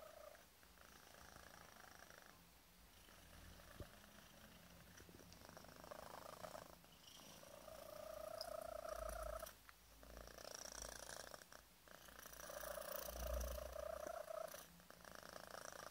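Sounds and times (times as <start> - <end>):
kitten purring: 0.0 - 15.9.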